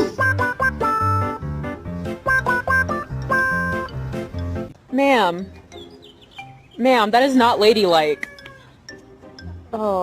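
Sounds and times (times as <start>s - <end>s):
bouncy background music: 0.0s - 10.0s.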